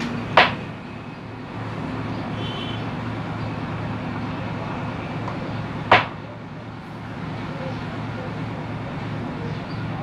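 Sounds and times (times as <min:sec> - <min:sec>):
constant background noise: 0:00.0 - 0:10.0.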